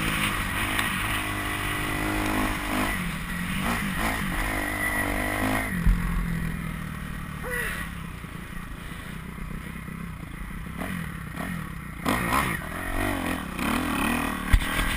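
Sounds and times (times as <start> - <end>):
motocross bike engine revving: 0.0 - 8.4, 10.6 - 14.9.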